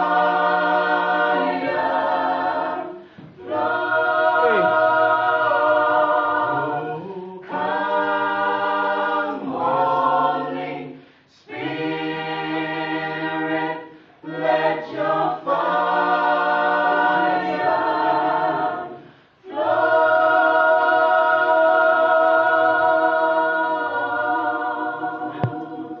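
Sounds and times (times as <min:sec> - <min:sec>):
a cappella gospel choir singing: 0:00.0 - 0:26.0.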